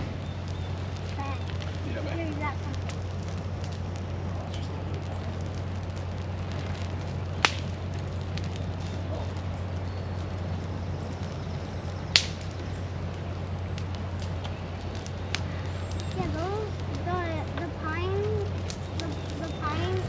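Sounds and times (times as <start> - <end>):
sharp pops: 0.0 - 10.6, 11.3 - 20.0
campfire crackling: 0.0 - 20.0
steady low rumble: 0.0 - 20.0.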